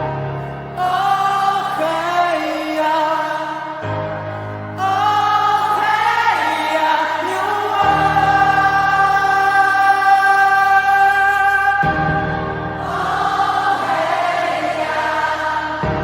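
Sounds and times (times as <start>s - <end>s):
live pop ballad with choir voices: 0.0s - 16.0s.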